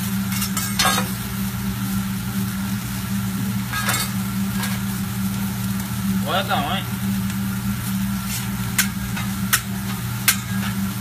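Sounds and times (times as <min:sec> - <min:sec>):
rice sizzling on griddle: 0:00.0 - 0:11.0.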